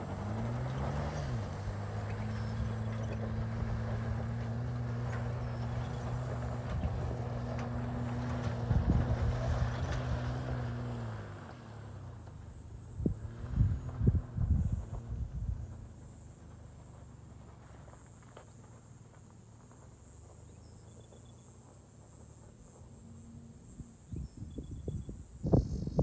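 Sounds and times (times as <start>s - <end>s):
tyres crackling over gravel: 0.0s - 24.0s
truck engine pulling uphill: 0.0s - 26.0s.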